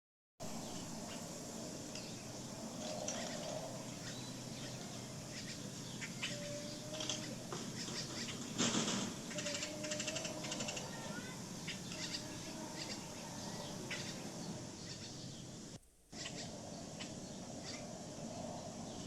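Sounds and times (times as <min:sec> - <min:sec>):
background hiss: 0:00.4 - 0:19.0.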